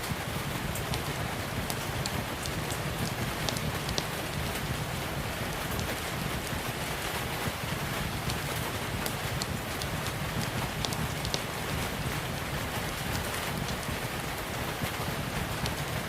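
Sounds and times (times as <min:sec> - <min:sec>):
crackling wood fire: 0:00.0 - 0:16.0
steady rain: 0:00.0 - 0:16.0.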